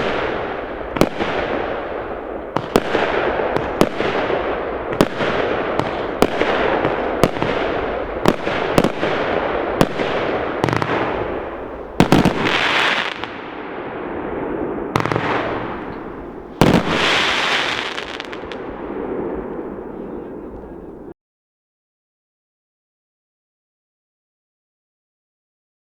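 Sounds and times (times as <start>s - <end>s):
fireworks bangs: 0.0s - 21.1s
fireworks crackling: 0.0s - 21.1s
distant fireworks rumble: 0.0s - 21.2s.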